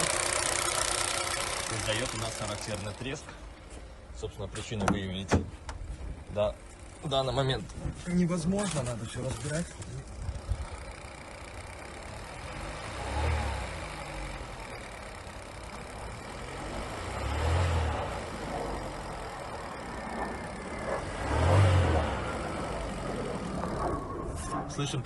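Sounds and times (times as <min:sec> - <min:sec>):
car engine blipped: 0:00.0 - 0:25.0.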